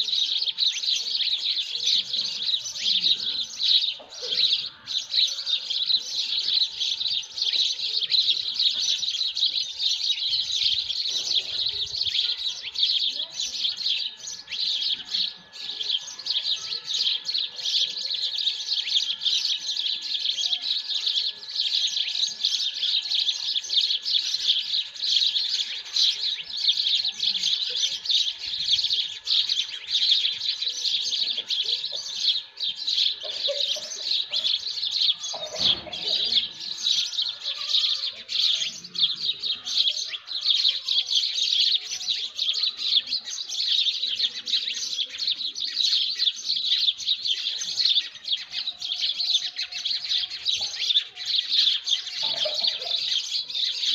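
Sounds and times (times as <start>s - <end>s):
faint steady high tone: 0.0s - 45.8s
small birds chirping chorus: 0.0s - 53.9s.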